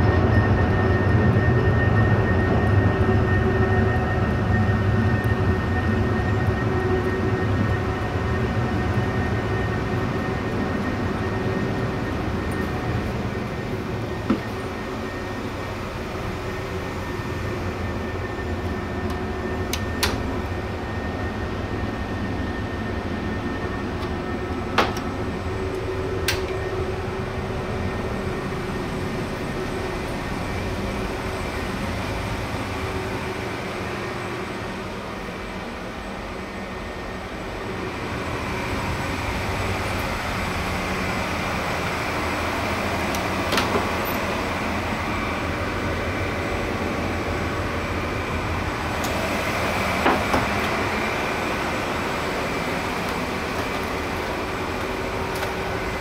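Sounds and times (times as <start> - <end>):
ship machinery hum: 0.0 - 56.0.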